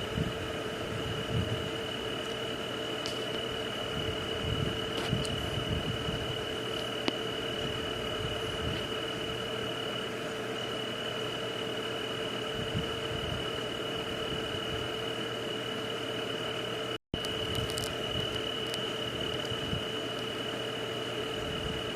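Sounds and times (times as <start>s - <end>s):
high insect trill: 0.0s - 21.9s.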